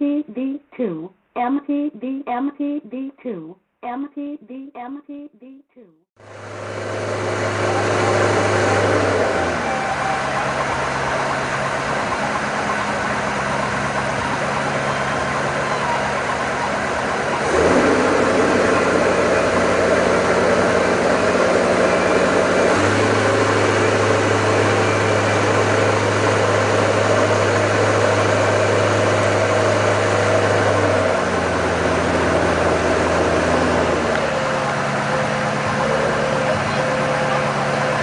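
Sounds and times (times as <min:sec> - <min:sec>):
motorboat engine running: 0:06.2 - 0:38.0.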